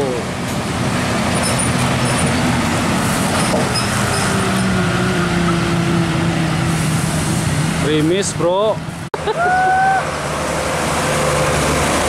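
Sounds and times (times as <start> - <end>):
diesel truck engine passing: 0.0 - 12.0
tyre and road noise: 0.0 - 12.0.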